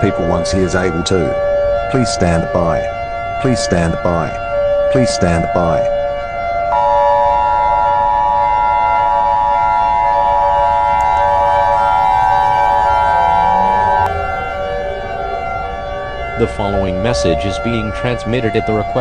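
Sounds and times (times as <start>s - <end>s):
faint steady drone: 0.0s - 19.0s
two-tone alarm signal: 0.0s - 19.0s.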